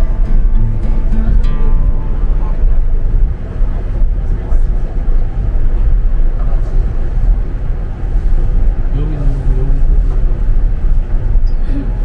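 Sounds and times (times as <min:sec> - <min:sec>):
monorail car rumbling: 0:00.0 - 0:12.0.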